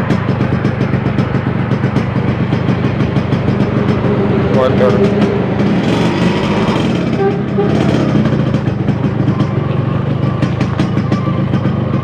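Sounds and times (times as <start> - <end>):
two-stroke motorcycle engine: 0.0 - 12.0.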